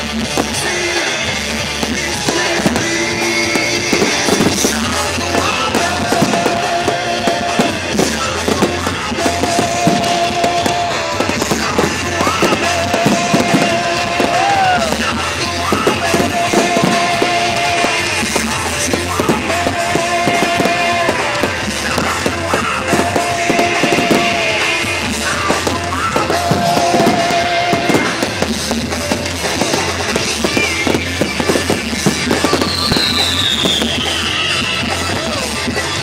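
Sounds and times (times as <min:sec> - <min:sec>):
fireworks bursting: 0:00.0 - 0:36.0
rock music with guitar and drums: 0:00.0 - 0:36.0.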